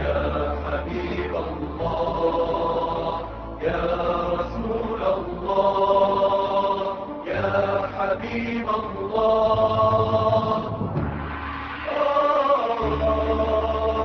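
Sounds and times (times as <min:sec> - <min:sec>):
low drone: 0:00.0 - 0:14.0.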